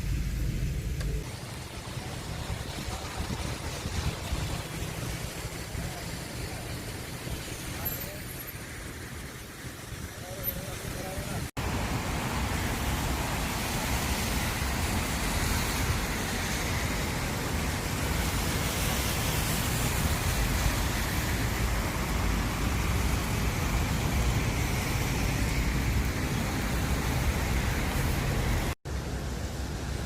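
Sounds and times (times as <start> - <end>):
car road noise in rain: 0.0 - 30.0.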